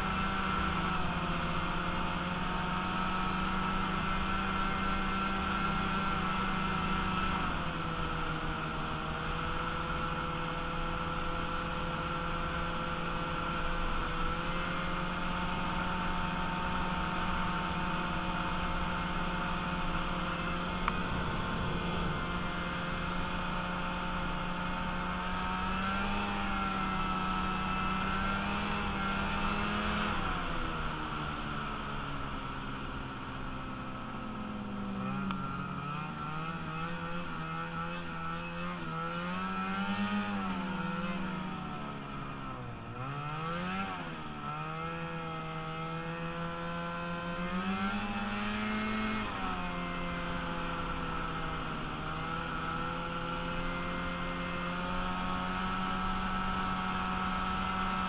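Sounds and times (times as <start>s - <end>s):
vehicle engine revving: 0.0s - 33.0s, 33.6s - 58.0s.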